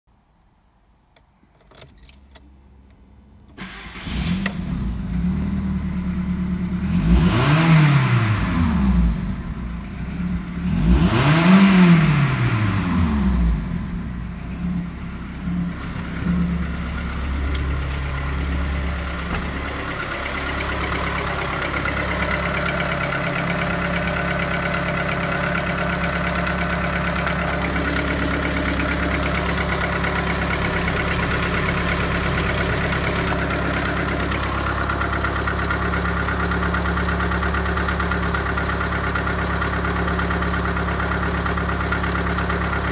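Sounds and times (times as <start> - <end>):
car engine starting and idling: 1.1 - 42.9
engine revving: 3.6 - 42.9.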